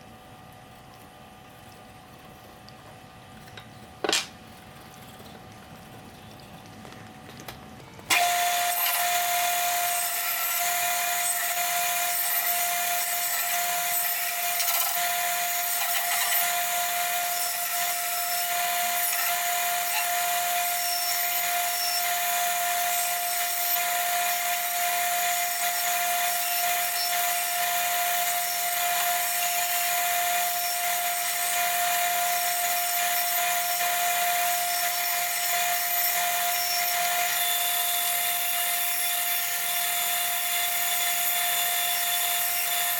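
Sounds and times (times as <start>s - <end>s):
power tool whining: 7.8s - 42.9s.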